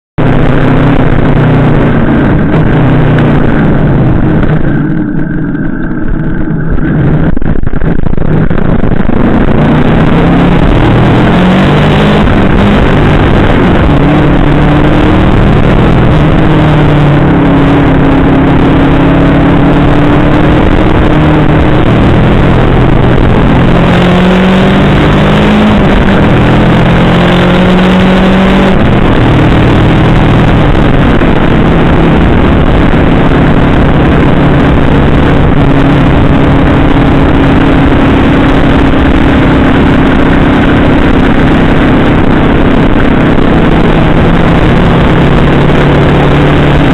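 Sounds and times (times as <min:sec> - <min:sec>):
motorcycle engine revving: 0:00.0 - 0:46.9
heavy wind rush: 0:00.2 - 0:46.9.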